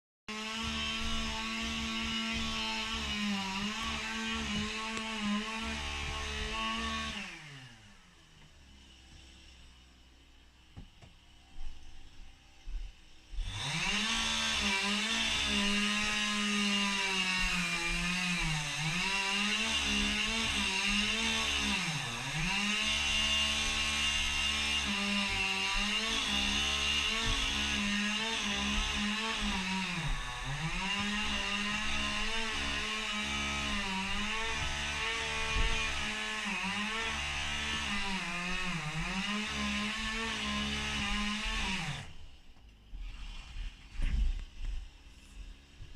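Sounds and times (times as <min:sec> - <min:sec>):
chainsaw cutting wood: 0:00.3 - 0:09.8, 0:13.3 - 0:44.9.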